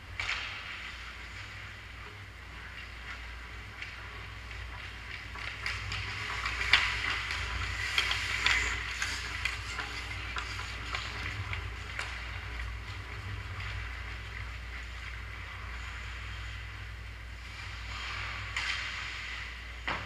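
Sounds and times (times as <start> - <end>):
steady low hum: 0.0 - 20.0
hockey sticks and puck clacking: 0.1 - 16.0, 17.8 - 20.0
skates scraping on ice: 0.2 - 19.7.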